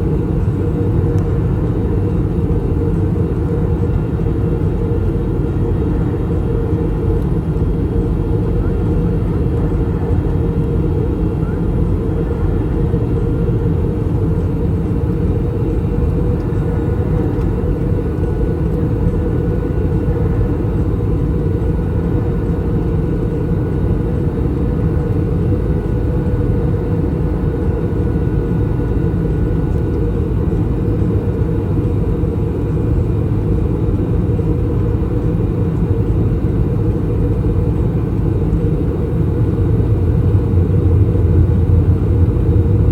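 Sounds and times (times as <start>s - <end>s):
airplane cabin rumble: 0.0s - 42.9s
faint steady whines: 0.0s - 42.9s.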